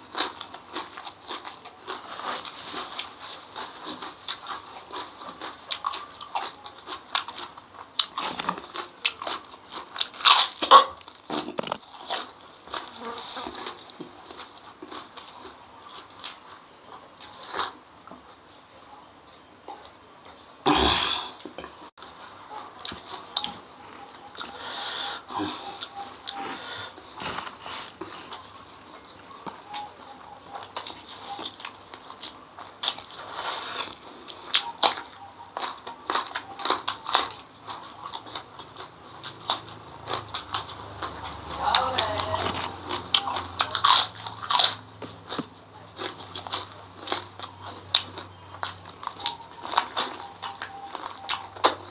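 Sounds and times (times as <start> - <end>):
crunchy bites: 0.0 - 16.6, 25.2 - 51.9
person chewing food: 0.0 - 18.5, 19.6 - 51.9.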